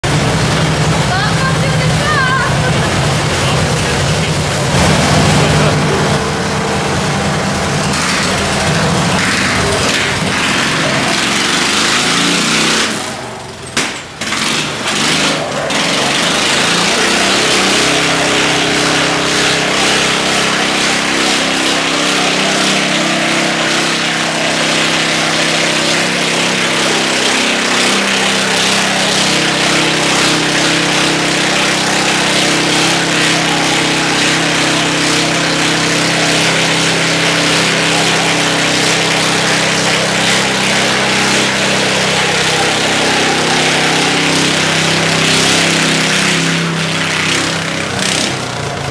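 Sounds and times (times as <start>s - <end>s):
garden tractor engines revving: 0.0s - 48.9s.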